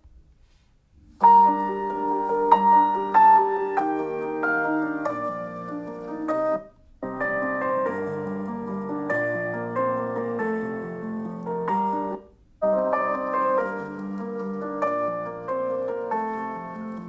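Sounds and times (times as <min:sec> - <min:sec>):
piano music through tablet speakers: 0:00.0 - 0:17.0.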